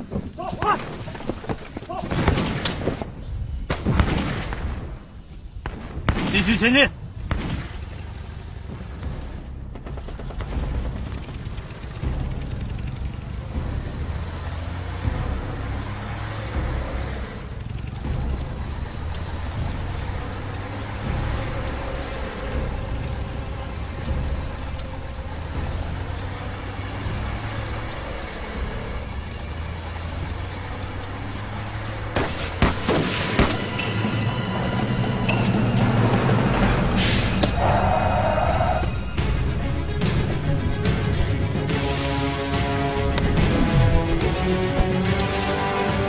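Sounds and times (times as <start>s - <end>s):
motor vehicle engine running: 7.0s - 46.0s.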